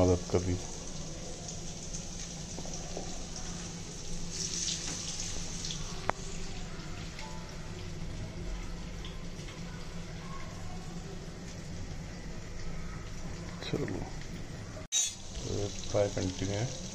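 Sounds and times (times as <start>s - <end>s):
oil sizzling in a frying pan: 0.0s - 14.3s, 14.9s - 16.9s.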